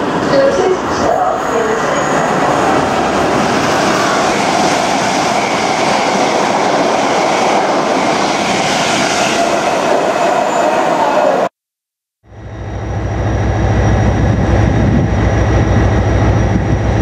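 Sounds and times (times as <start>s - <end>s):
train passing at speed: 0.0s - 11.5s, 12.3s - 17.0s.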